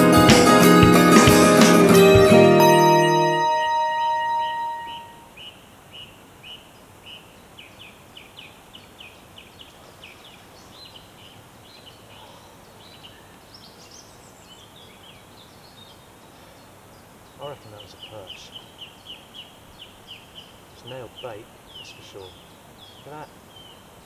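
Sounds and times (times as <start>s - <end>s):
outdoor background hiss: 0.0s - 24.0s
songbird singing faintly: 4.3s - 24.0s.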